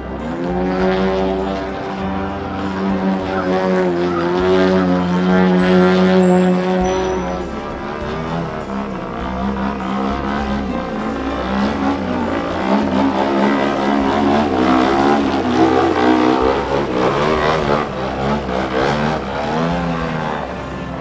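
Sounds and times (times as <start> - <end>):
background music: 0.0 - 21.0
plane radial engine: 0.0 - 21.0.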